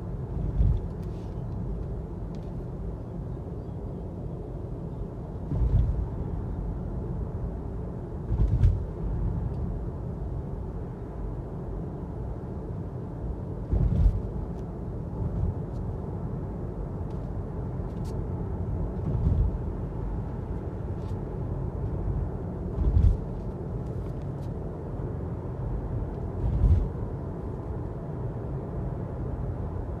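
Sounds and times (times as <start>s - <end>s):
road rumble inside car: 0.0s - 30.0s.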